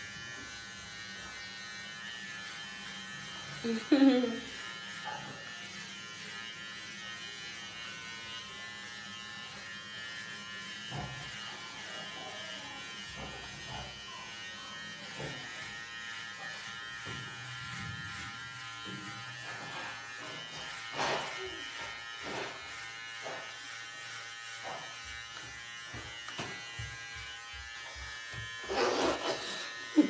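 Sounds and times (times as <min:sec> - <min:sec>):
electric hair clipper buzzing: 0:00.0 - 0:30.0.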